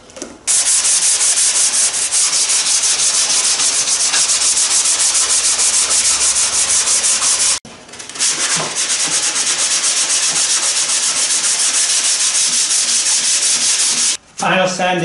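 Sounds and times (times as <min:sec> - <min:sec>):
sandpaper rubbing on wood: 0:00.5 - 0:07.6, 0:08.2 - 0:14.2.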